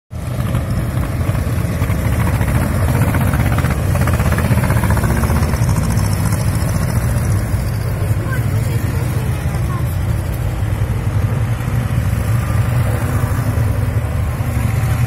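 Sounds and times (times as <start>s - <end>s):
old tractor engines chugging: 0.1s - 15.0s.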